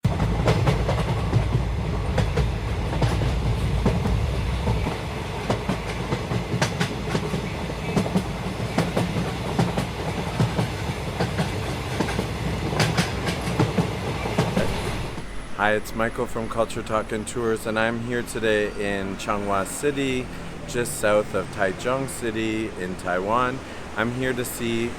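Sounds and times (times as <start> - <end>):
train rumbling: 0.0 - 24.9
wheels clicking over rails: 0.1 - 24.9.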